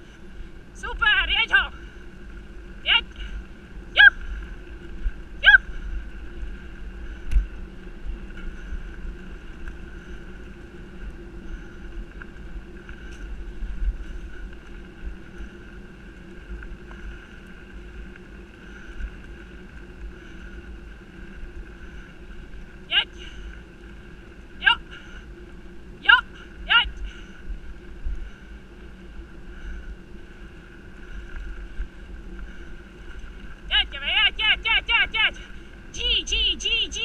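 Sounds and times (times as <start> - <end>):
faint steady hum: 0.0 - 37.0
wind rumbling on microphone: 0.0 - 37.0
bike rolling over dirt track: 1.8 - 34.2.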